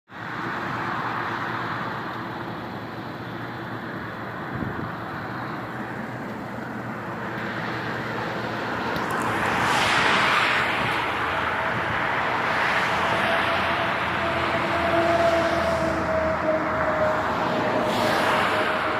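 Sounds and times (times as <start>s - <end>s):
highway traffic rushing: 0.1s - 18.9s.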